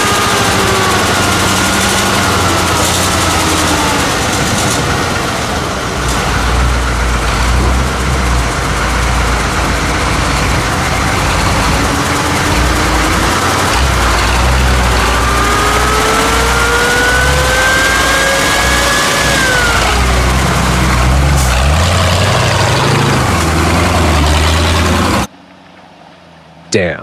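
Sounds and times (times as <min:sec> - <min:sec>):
truck engine rumbling and revving: 0:00.0 - 0:27.0.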